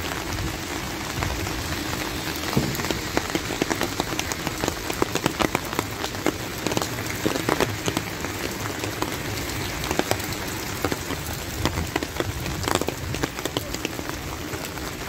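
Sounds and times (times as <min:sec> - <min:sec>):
rain on wet pavement: 0:00.0 - 0:15.0
sharp taps of raindrops: 0:00.3 - 0:15.0.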